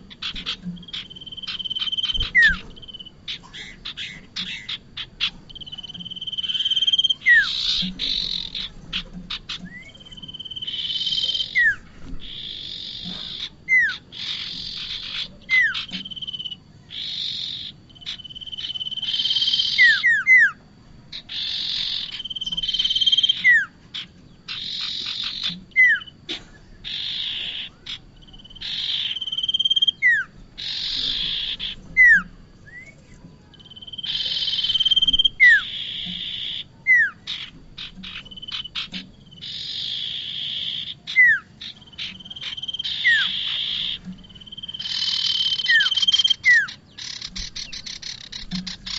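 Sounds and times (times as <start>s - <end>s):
sharp downslurred bird chips: 0.0s - 20.5s, 21.1s - 48.9s
bird whistle and buzzy rasp: 0.0s - 48.9s.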